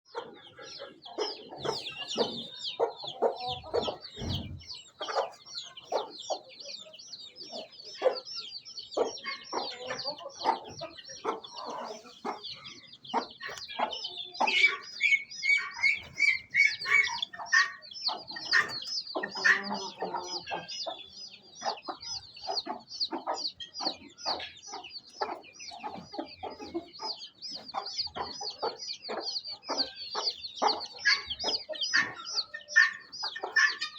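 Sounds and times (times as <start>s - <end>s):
chickens clucking: 0.1s - 33.9s
high-pitched chirping: 0.8s - 33.9s.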